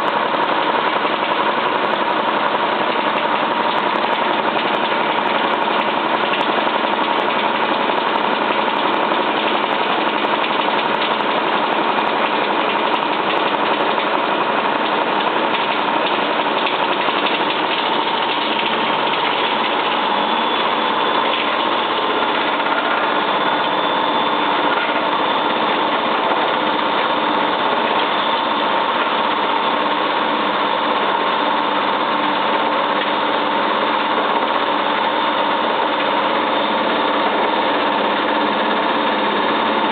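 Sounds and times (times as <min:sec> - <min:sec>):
loud rough noise in drum: 0:00.0 - 0:39.9
washing machine spinning: 0:00.0 - 0:39.9.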